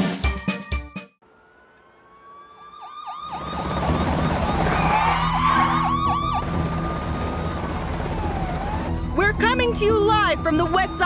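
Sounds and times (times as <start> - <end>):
police sirens wailing and yelping: 1.4 - 11.0.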